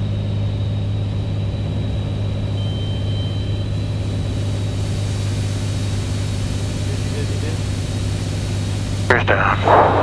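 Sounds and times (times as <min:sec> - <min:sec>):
airplane engine drone in cockpit: 0:00.0 - 0:10.0.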